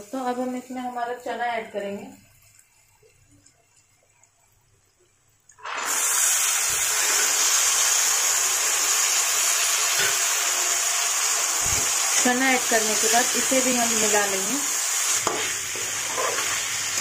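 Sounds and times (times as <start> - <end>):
chickpeas sizzling in hot oil: 0.0 - 3.6, 5.6 - 17.0.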